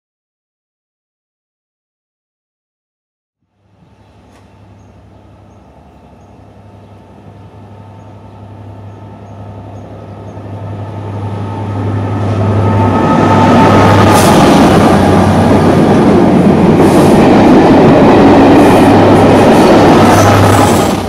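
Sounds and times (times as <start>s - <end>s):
diesel locomotive engine drone: 3.4s - 21.0s
rail noise: 3.4s - 21.0s.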